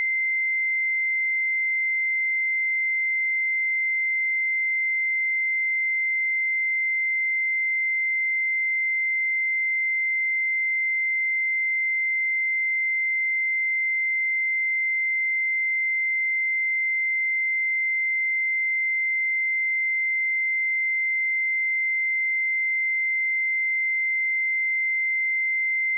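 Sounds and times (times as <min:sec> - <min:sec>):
high-pitched sine-wave test tone: 0:00.0 - 0:25.9.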